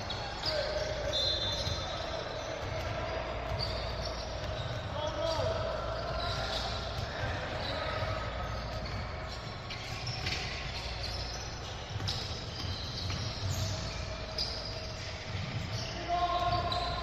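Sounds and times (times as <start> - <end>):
sneakers squeaking on floor: 0.0 - 17.0
basketball bouncing: 1.5 - 5.4, 6.5 - 16.8.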